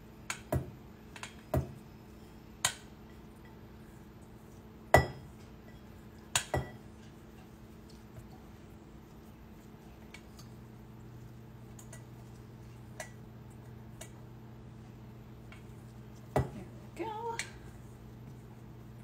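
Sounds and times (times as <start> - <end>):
cooktop hum: 0.0 - 19.0.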